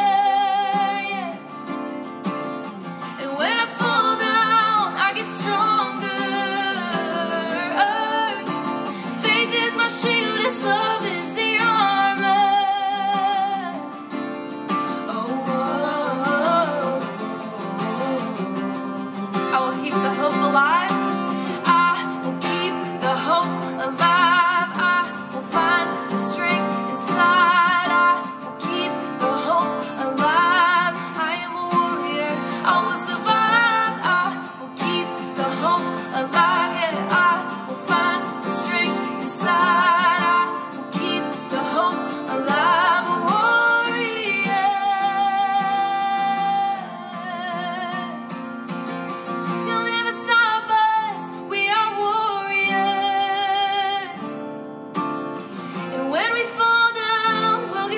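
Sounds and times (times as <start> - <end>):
woman singing worship song: 0.0 - 1.5, 3.2 - 14.0, 15.0 - 18.6, 19.4 - 48.2, 49.7 - 54.4, 55.9 - 57.9
strummed acoustic guitar: 0.0 - 57.9.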